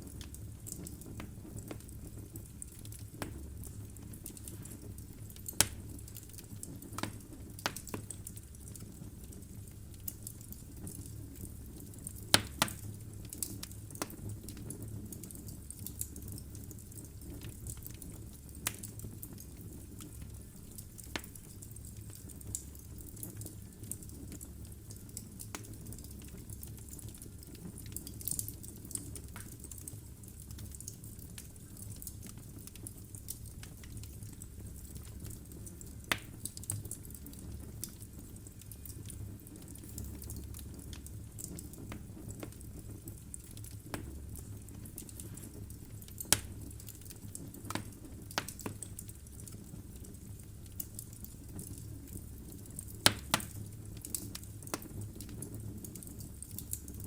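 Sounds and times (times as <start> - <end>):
fire flames rumbling: 0.0 - 57.0
logs crackling and popping: 0.0 - 57.0.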